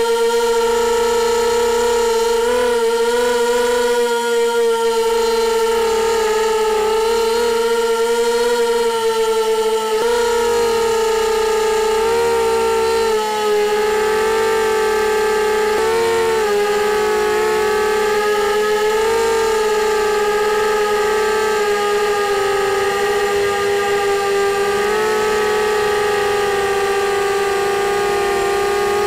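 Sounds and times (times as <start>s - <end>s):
quadcopter motors whining: 0.0s - 29.0s.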